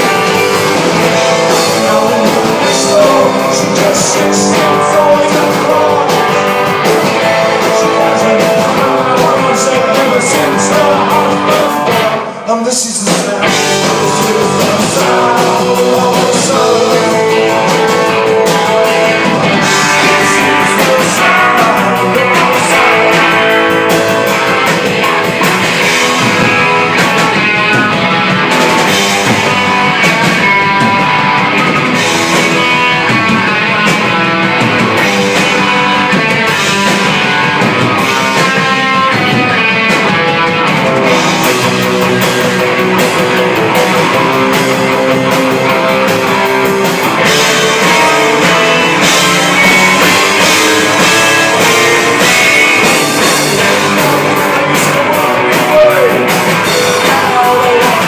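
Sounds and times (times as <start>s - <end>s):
punk rock band playing: 0.0s - 58.0s.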